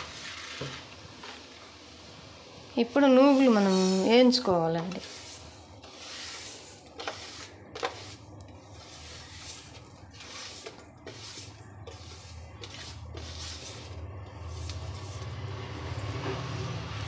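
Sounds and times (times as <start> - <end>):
fingers swishing seeds across plate: 3.0 - 16.8.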